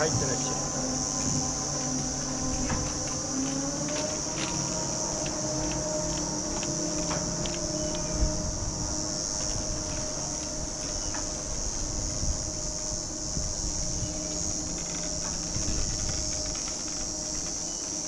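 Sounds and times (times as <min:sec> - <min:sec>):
chairlift rumble and hum: 0:00.0 - 0:18.0
insects chorus: 0:00.0 - 0:18.0.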